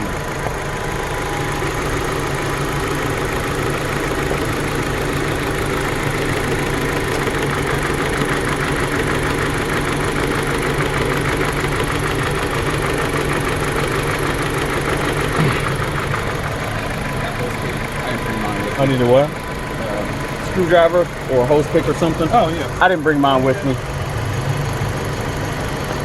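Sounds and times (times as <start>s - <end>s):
engine idling with misfire: 0.0s - 26.0s.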